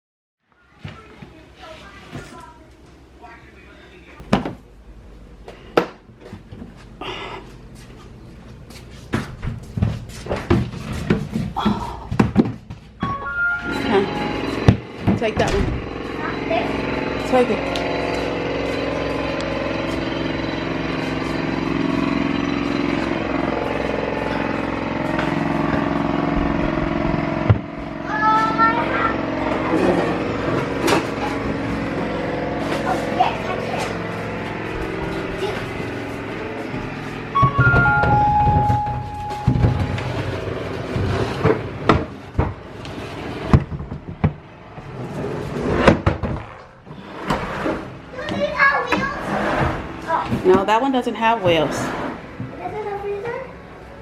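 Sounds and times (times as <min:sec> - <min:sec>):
steady mechanical drone: 0:01.3 - 0:54.0.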